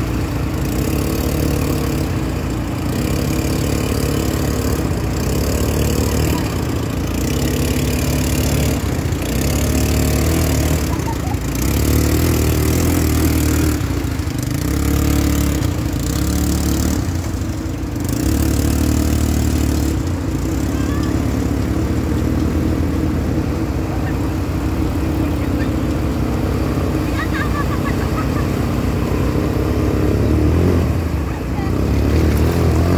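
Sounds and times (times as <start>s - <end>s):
quad bike engines revving: 0.0s - 32.9s.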